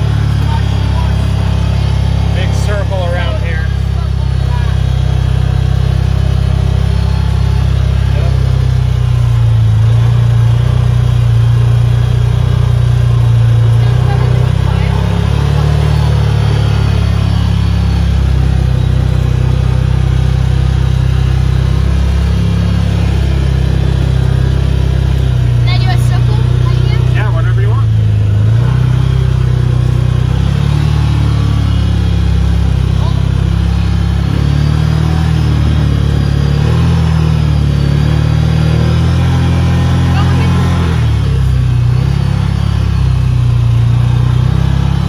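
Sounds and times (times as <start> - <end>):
utv engine low rumble: 0.0 - 45.0.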